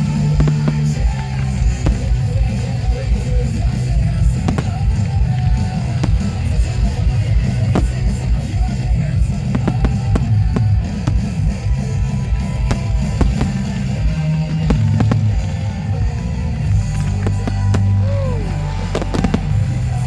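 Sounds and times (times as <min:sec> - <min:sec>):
fireworks bursting with bangs: 0:00.0 - 0:20.0.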